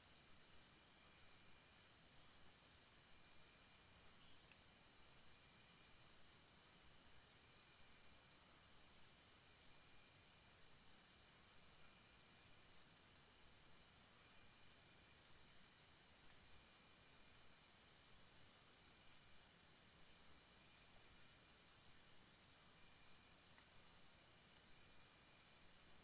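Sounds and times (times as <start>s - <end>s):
faint birds singing: 0.0s - 26.0s.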